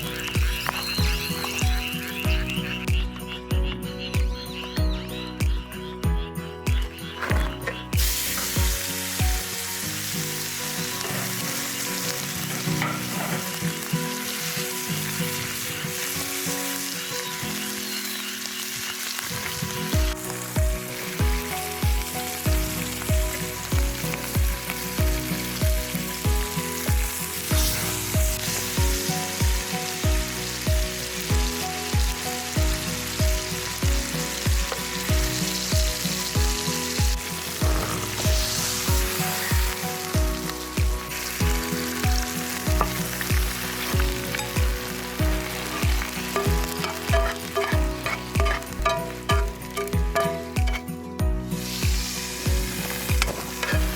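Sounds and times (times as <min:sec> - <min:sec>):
background music with drum beat: 0:00.0 - 0:09.6, 0:20.0 - 0:53.9
steak sizzling over campfire: 0:00.0 - 0:53.9.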